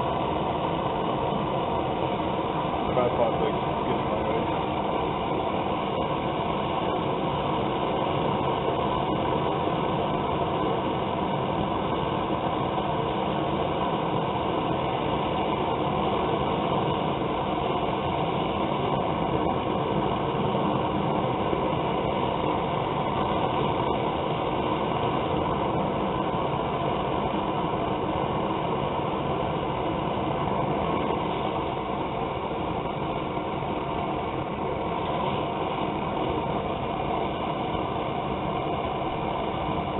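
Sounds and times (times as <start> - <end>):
gas burner rushing: 0.0 - 39.9.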